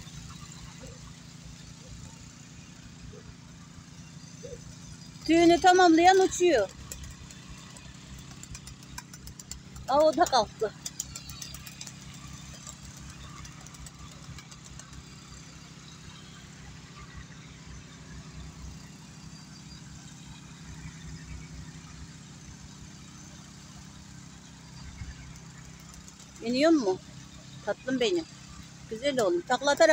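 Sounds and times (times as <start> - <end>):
engine idling hum: 0.0 - 29.9
faint outdoor background noise: 0.0 - 29.9.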